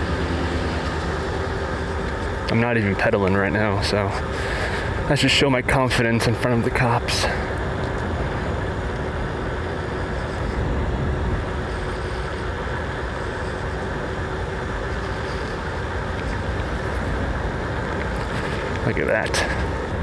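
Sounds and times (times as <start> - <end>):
faint steady hum: 0.0 - 20.0
wind rush and road noise: 0.0 - 20.0.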